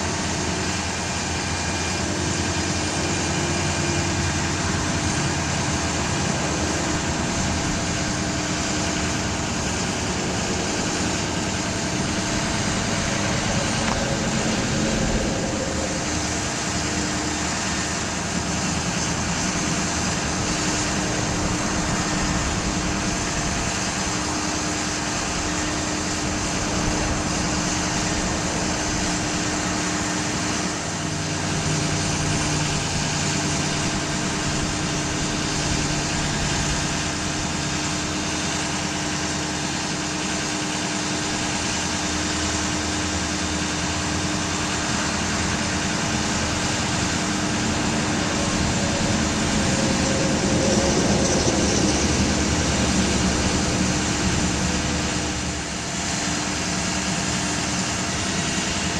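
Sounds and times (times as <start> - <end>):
truck engine running: 0.0 - 58.9.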